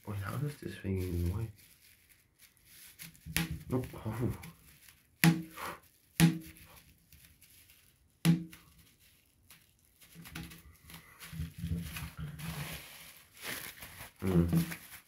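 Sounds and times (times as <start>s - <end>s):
plastic sheet crinkling: 0.0s - 15.0s
bubble wrap pop: 2.7s - 15.0s.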